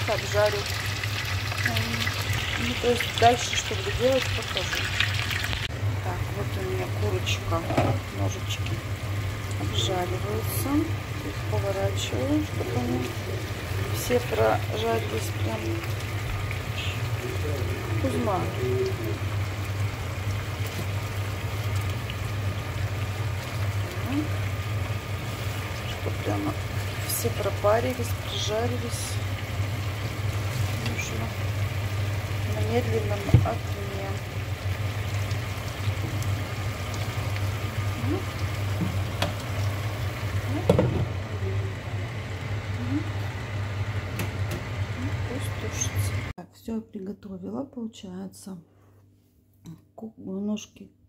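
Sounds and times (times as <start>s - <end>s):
chicken sizzling in frying pan: 0.0s - 46.3s.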